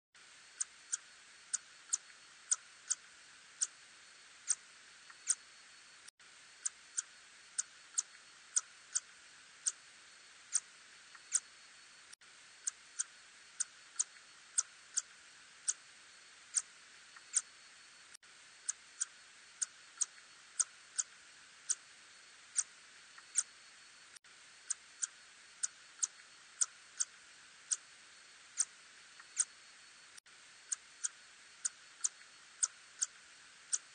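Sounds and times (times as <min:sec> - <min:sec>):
steady hiss: 0:00.2 - 0:33.9.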